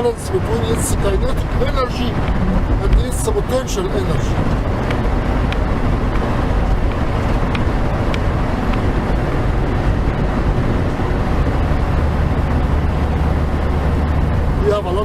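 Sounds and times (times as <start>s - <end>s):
deep steady drone: 0.0s - 15.0s
truck road and engine rumble: 0.0s - 15.0s.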